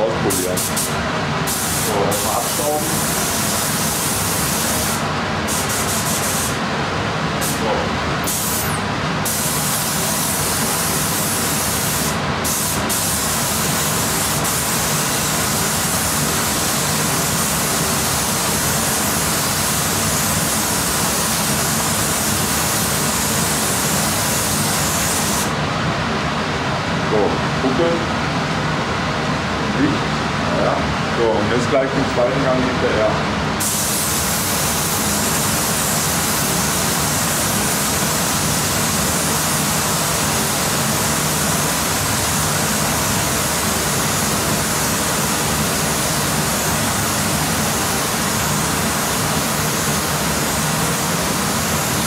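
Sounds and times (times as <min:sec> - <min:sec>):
exhaust fan rushing: 0:00.0 - 0:52.0
spray gun hissing: 0:00.3 - 0:06.6, 0:07.4 - 0:25.6, 0:33.6 - 0:52.0.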